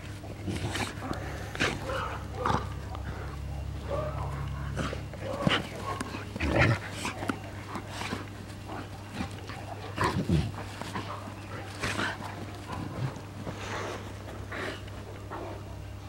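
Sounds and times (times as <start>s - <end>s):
dogs play-fighting vocalizing: 0.0s - 15.9s.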